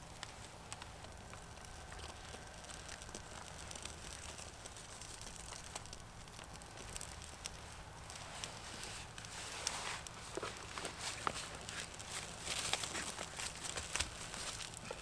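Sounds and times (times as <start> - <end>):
small fire crackling and popping: 0.0 - 15.0.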